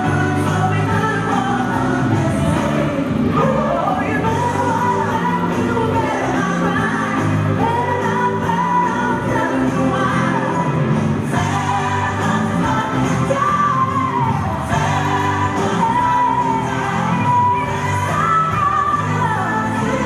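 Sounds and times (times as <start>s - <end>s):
pop song with singing: 0.0s - 20.0s.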